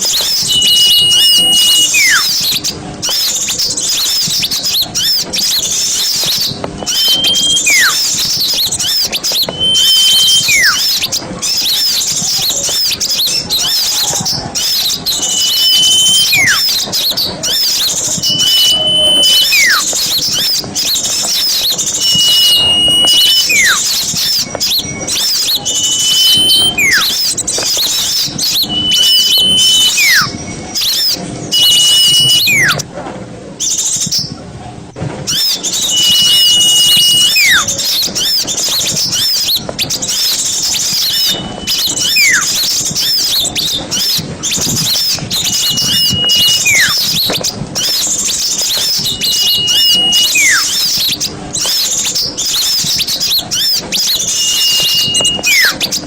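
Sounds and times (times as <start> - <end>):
bird whistle call: 0.0 - 32.8, 35.3 - 56.0
small songbirds chattering: 0.0 - 32.8, 35.3 - 56.0.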